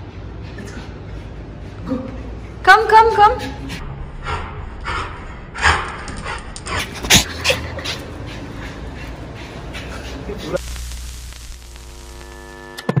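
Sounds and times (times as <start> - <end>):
small dog panting: 0.1 - 10.6.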